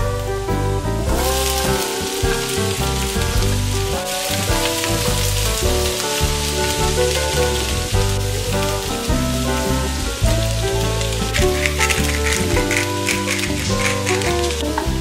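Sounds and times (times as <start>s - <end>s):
background music: 0.0s - 15.0s
vegetables sizzling in oil: 1.1s - 15.0s
wooden spatula stirring: 1.2s - 15.0s.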